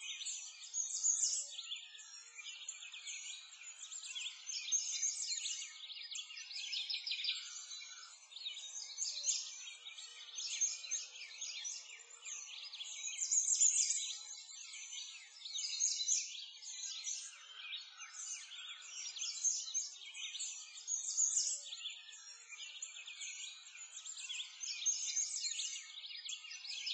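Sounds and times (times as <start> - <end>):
songbirds chirping: 0.0 - 26.9.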